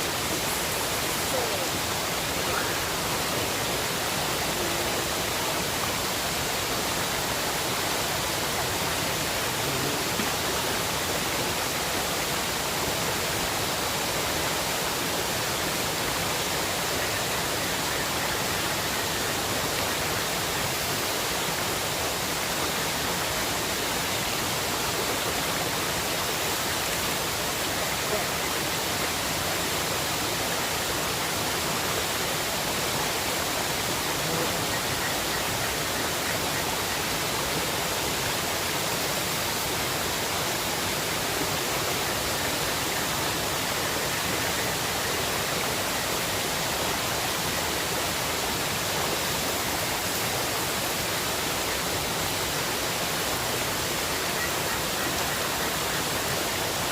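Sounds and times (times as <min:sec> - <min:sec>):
fast-flowing river rushing: 0:00.0 - 0:56.9.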